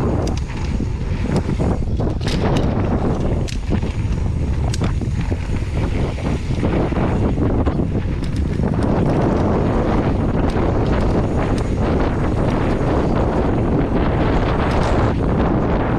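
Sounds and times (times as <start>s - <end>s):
bike clicks and rattles: 0.0s - 15.9s
tyres rolling on dirt trail: 0.0s - 15.9s
wind buffeting microphone: 0.0s - 15.9s.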